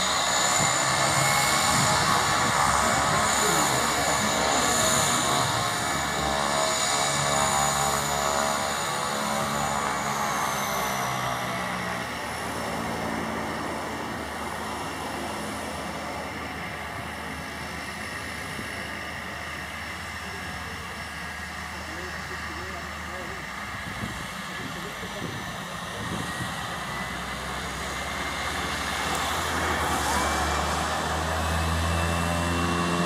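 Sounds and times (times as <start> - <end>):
turboprop plane taxiing: 0.0 - 33.0.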